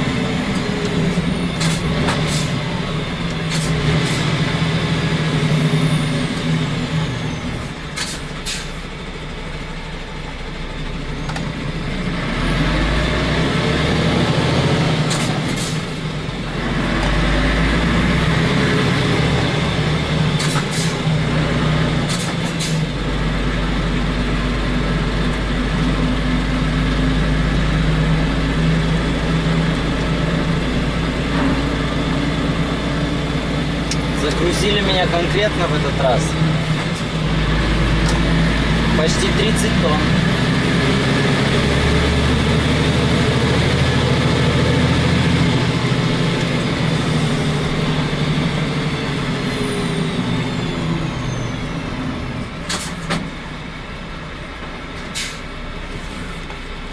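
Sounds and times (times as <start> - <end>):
truck diesel engine: 0.0 - 56.9.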